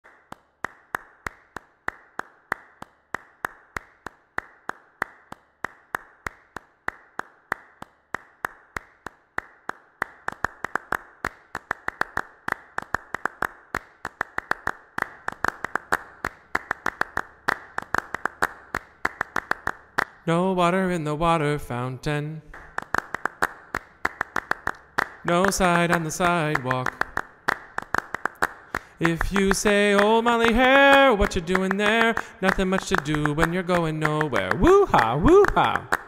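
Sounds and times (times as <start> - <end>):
sharp percussive clap hits: 0.0 - 20.3, 22.5 - 36.0.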